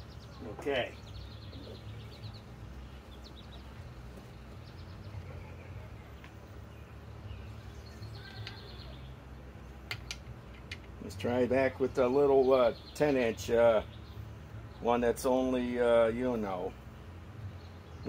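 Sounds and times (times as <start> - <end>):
birds chirping: 0.0 - 18.0
low steady rumble: 0.0 - 18.0.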